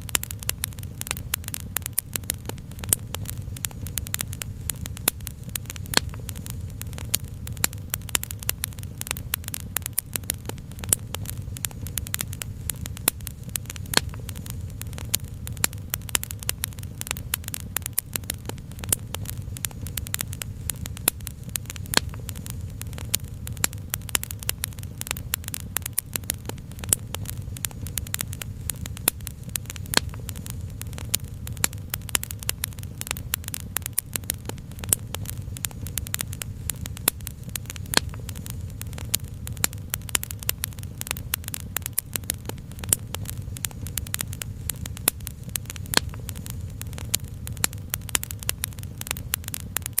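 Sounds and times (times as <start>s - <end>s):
low steady rumble: 0.0s - 50.0s
wood fire crackling and popping: 0.0s - 50.0s.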